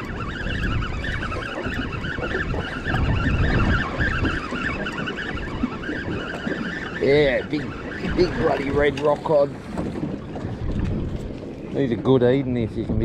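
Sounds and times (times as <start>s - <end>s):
water washing against hull: 0.0s - 13.0s
wind buffeting microphone: 0.0s - 13.0s.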